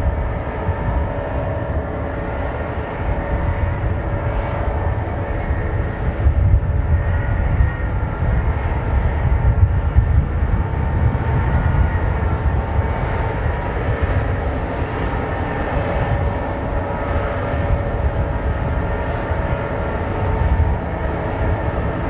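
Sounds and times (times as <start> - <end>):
faint thin engine whine: 0.0 - 22.0
jet engines low rumble: 0.0 - 22.0.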